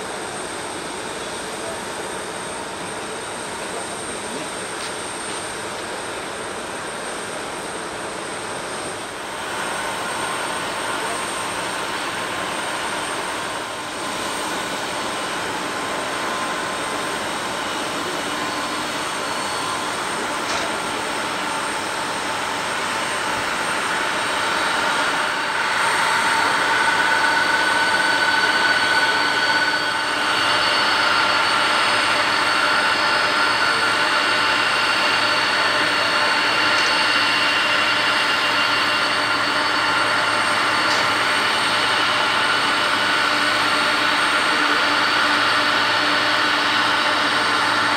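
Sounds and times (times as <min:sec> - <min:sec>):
jet engines rushing and whining: 0:00.0 - 0:47.9.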